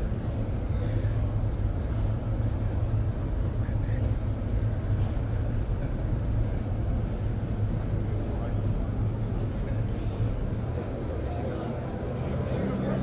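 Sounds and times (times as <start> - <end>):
faint voices: 0.3 - 13.0.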